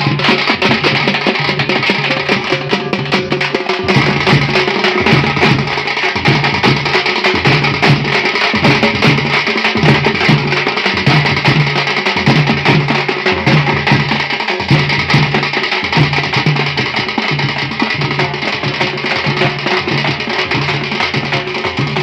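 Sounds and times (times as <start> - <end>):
frame drums beaten with sticks: 0.0 - 22.0.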